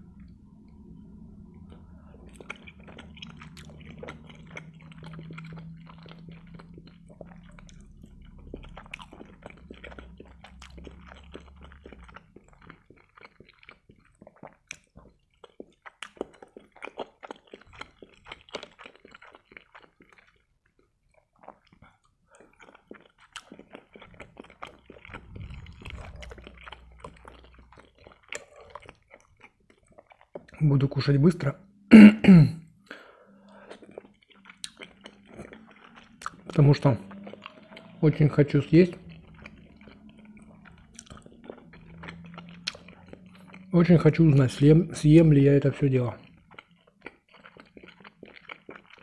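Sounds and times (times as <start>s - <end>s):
wet chewing: 1.6s - 30.9s, 32.9s - 49.0s.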